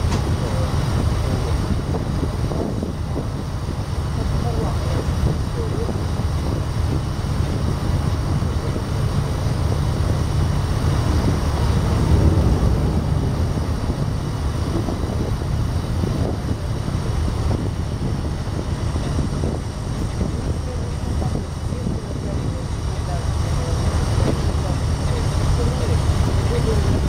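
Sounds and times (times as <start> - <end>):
ship diesel engine running: 0.0 - 27.0
wind on microphone: 0.0 - 27.0.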